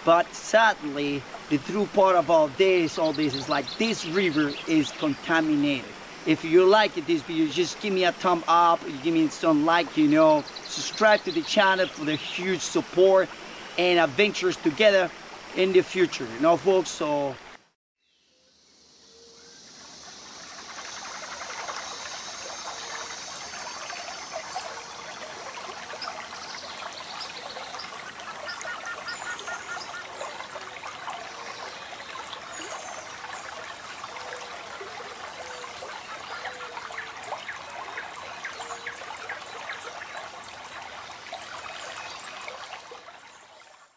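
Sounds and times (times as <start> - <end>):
water running over rocks: 0.0 - 17.7, 20.2 - 43.9.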